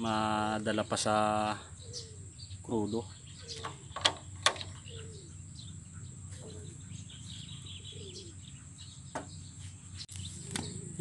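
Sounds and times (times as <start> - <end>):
birds chirping faintly: 0.0 - 11.0
steady low hum: 0.0 - 11.0.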